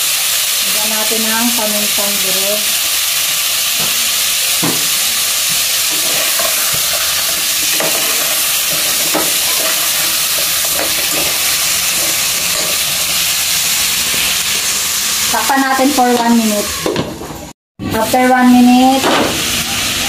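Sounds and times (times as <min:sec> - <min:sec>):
prawns sizzling in a pot: 0:00.0 - 0:16.9, 0:17.9 - 0:20.0.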